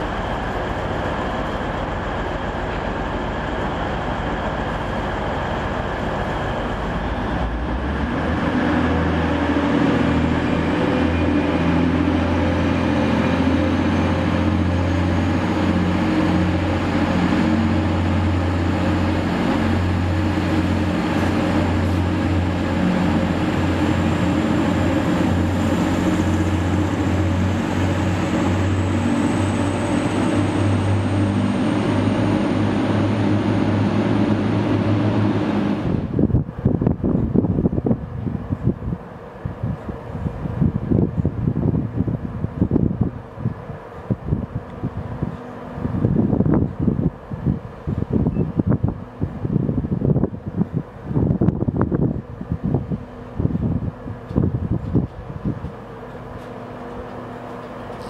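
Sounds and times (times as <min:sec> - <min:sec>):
train diesel engines: 0:00.0 - 0:58.0.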